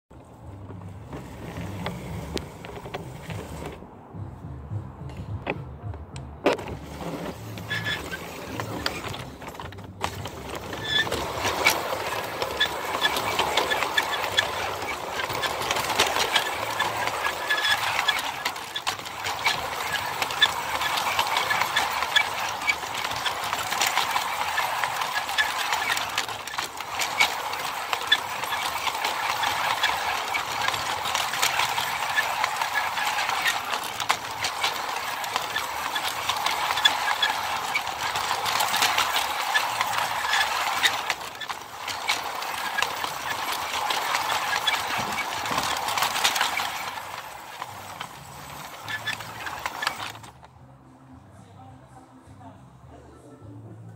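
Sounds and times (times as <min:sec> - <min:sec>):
model train wheels rattling: 0:00.2 - 0:03.8, 0:06.4 - 0:50.5.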